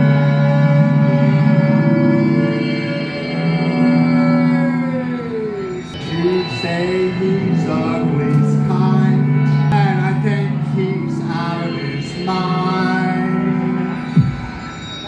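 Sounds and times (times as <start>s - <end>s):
low droning tones: 0.0s - 15.0s
wavering sliding melody: 0.0s - 15.0s.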